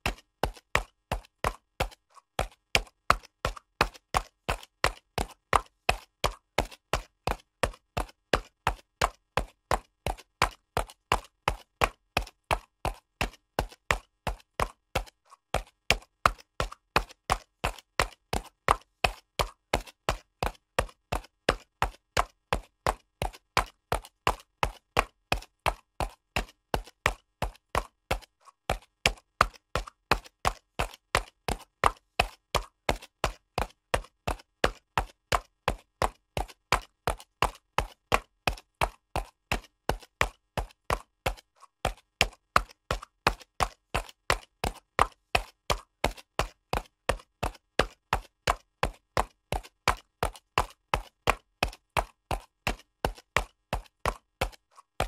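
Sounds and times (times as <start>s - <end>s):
horse hooves trotting on concrete: 0.0s - 55.0s.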